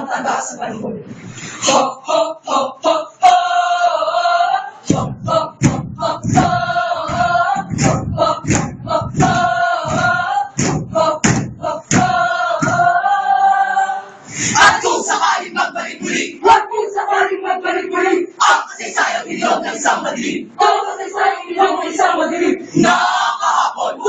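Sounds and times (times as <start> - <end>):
choir chanting in unison: 0.0 - 24.0.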